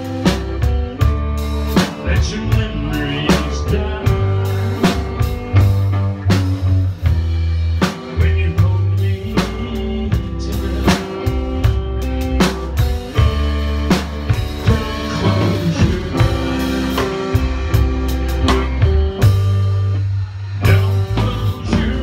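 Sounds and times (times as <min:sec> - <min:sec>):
drum kit beat: 0:00.0 - 0:22.0
guitar: 0:00.0 - 0:22.0
low bass notes: 0:00.0 - 0:22.0.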